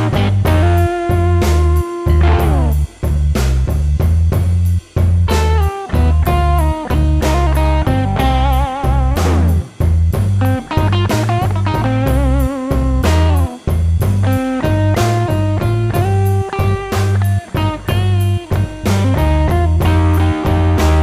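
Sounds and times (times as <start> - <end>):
electric guitar lead lines: 0.0 - 3.2, 5.2 - 21.0
bass: 0.0 - 21.0
drums: 0.0 - 21.0.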